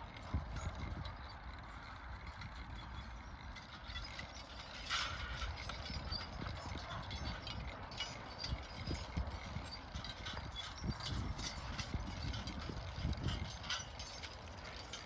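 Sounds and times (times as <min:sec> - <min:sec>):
horse hooves clopping: 0:00.0 - 0:15.0.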